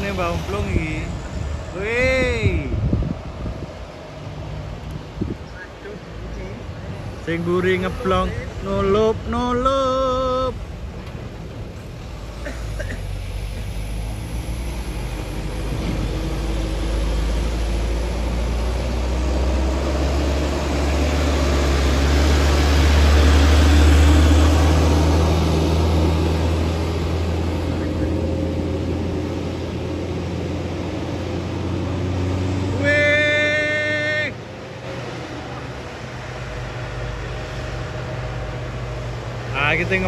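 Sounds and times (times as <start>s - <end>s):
diesel truck engine pulling uphill: 0.0s - 40.0s.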